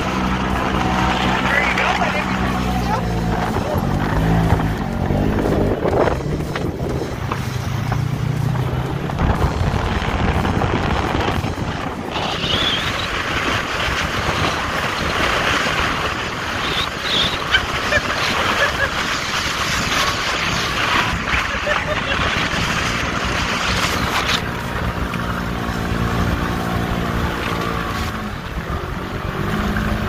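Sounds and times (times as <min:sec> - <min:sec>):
off-road vehicle engine: 0:00.0 - 0:30.0
wind rushing over microphone: 0:00.0 - 0:30.0.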